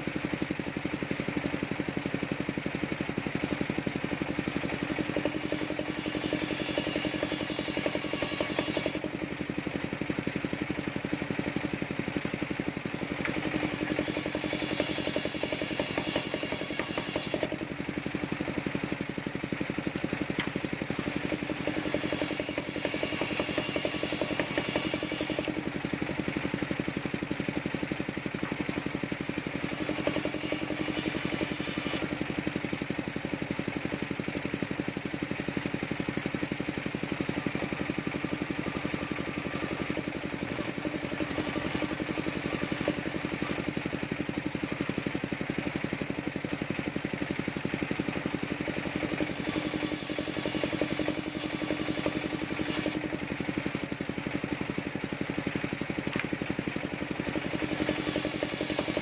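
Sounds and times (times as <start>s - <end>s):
circular saw cutting wood: 0.0s - 27.0s, 28.2s - 33.3s, 36.3s - 46.0s, 47.6s - 53.9s, 56.1s - 59.0s.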